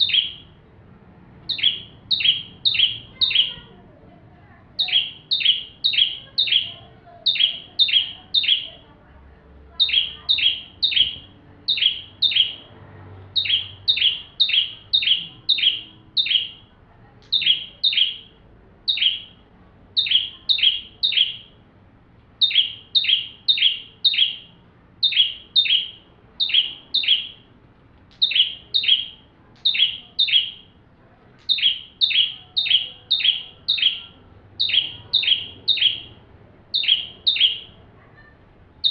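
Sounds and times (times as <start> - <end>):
bird chirping: 0.0 - 21.7, 22.3 - 30.8, 31.4 - 38.9.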